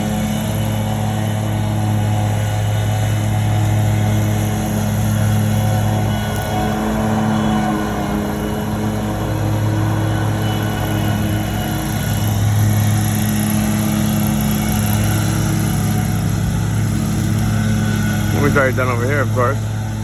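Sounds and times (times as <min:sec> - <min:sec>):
lawn equipment engines humming: 0:00.0 - 0:20.0.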